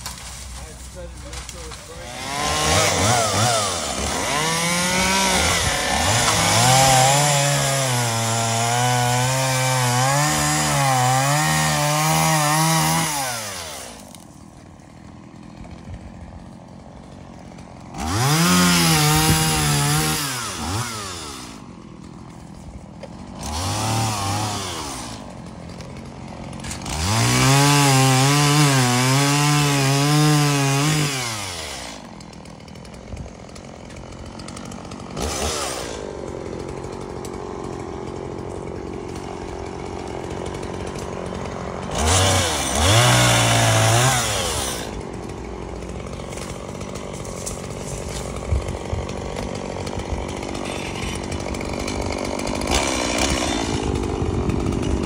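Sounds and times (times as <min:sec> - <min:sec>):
chainsaw idling: 0:00.0 - 0:55.0
chainsaw revving: 0:00.0 - 0:55.0.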